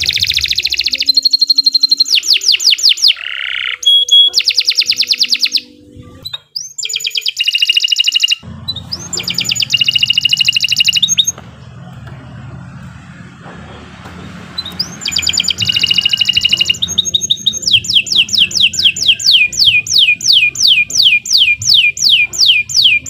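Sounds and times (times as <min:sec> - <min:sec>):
canary singing trills: 0:00.0 - 0:12.1, 0:14.5 - 0:23.0.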